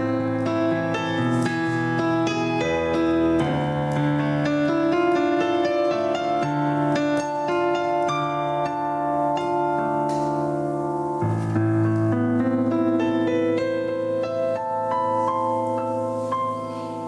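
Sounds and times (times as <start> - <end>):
calm piano melody: 0.0 - 17.0.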